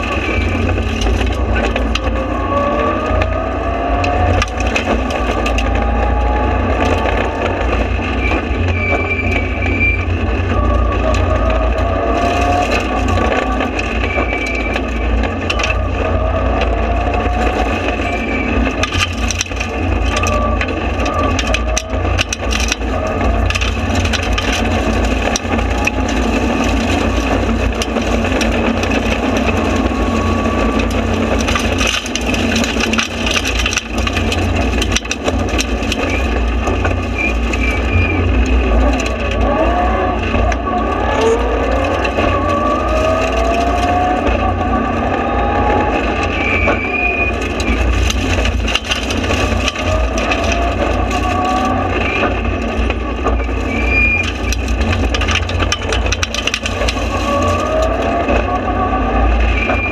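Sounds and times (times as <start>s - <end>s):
clatter of knocks and rattles: 0.0s - 59.9s
rally car engine revving: 0.0s - 59.9s.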